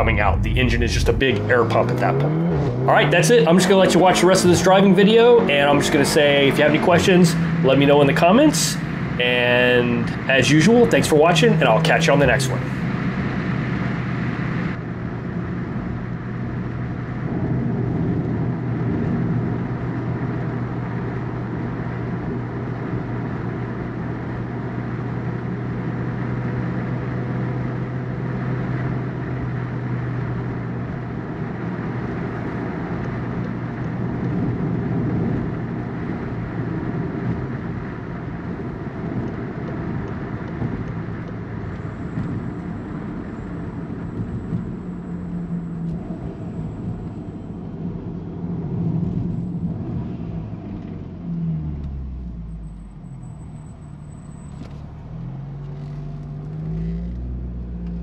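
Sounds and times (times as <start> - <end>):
car engine drone: 0.0 - 58.0
tyre and road noise: 0.0 - 58.0.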